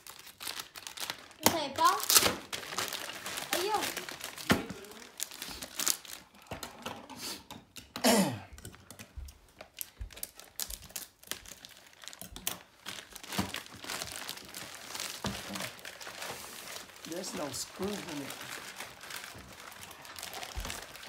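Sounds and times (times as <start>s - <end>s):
packaging crinkling and rustling: 0.0s - 7.0s, 8.6s - 21.0s.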